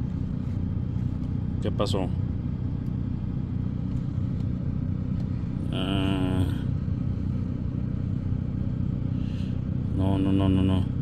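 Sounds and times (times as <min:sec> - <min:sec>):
low rumble of running vehicles: 0:00.0 - 0:11.0.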